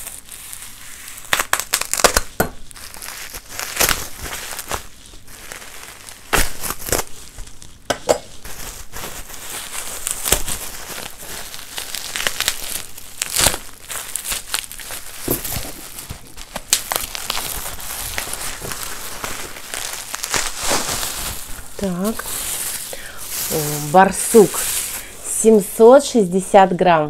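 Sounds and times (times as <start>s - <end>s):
sharp plastic crackles: 0.0s - 25.1s
plastic wrap crinkling: 0.0s - 26.8s.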